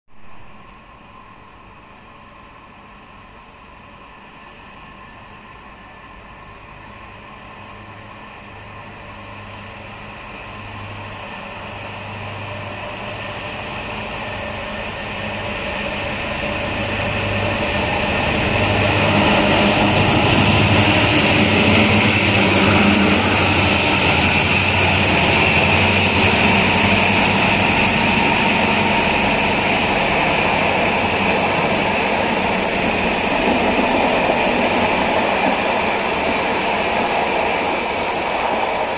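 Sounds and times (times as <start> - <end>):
train coaches rumbling on rails: 0.2 - 38.9
diesel locomotive engines: 0.3 - 38.9.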